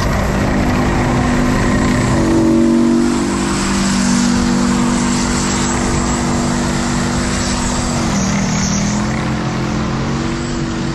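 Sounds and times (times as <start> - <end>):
diesel engine drone: 0.0 - 10.9.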